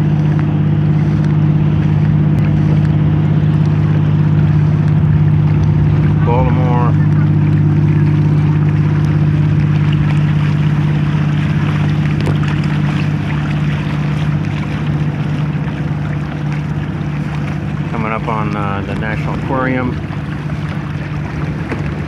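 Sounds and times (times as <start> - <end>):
low hum: 0.0 - 22.0
water rushing around hull: 0.0 - 22.0.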